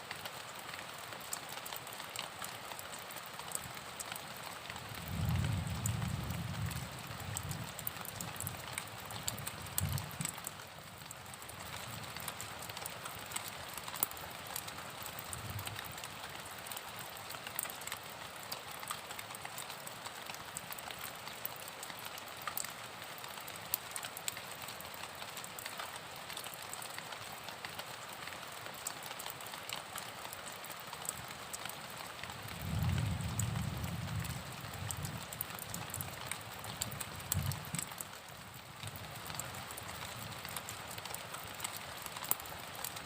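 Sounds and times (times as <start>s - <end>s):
raindrop ticks: 0.0s - 43.0s
steady rain falling: 0.0s - 43.0s.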